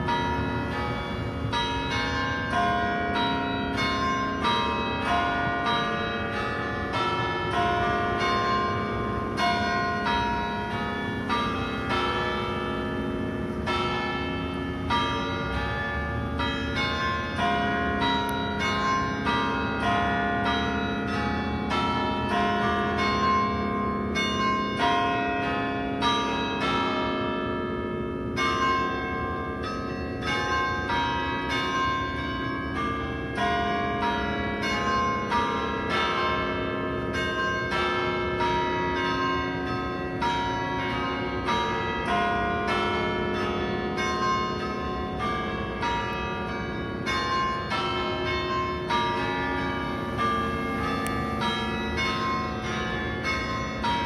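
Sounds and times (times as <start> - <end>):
church bells ringing in a peal: 0.0 - 54.0.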